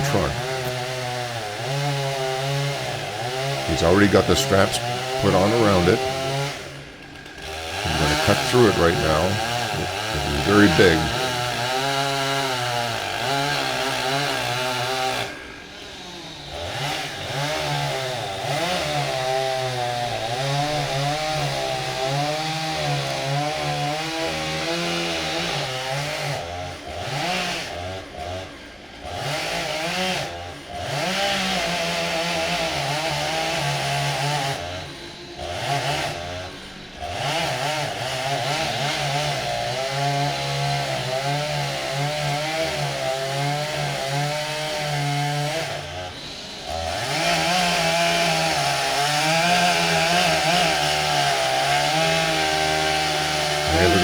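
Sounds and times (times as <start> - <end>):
chainsaw cutting through trunk: 0.1 - 54.0.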